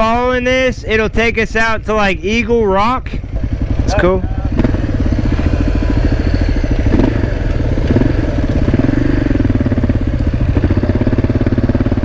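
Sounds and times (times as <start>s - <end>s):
motorcycle engine running: 1.8s - 12.0s.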